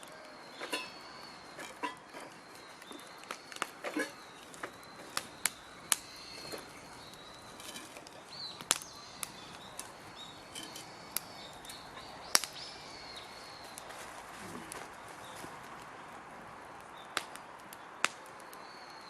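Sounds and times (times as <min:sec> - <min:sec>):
birds chirping: 0:00.0 - 0:19.0
campfire crackling and popping: 0:00.0 - 0:19.0.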